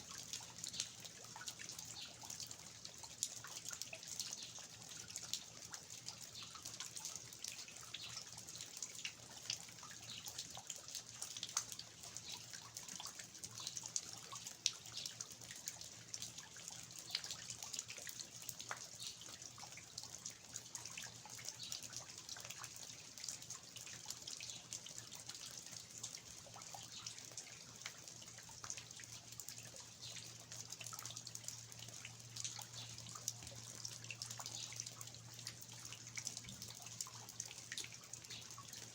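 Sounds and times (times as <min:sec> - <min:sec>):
water dripping from eaves: 0:00.0 - 0:38.9.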